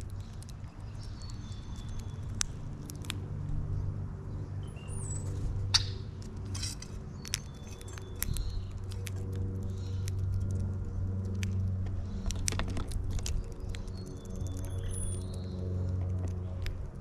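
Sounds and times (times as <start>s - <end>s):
birds chirping: 0.0s - 16.9s
low mechanical hum: 0.0s - 17.0s.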